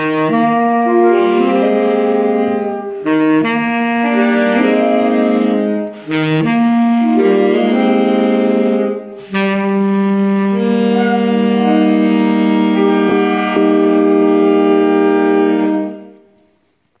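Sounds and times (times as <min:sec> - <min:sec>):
saxophones playing chords: 0:00.0 - 0:16.5.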